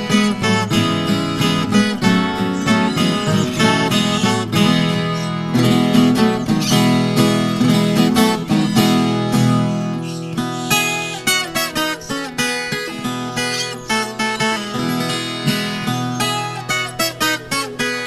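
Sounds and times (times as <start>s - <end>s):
plucked guitar melody with strummed chords: 0.0s - 18.0s.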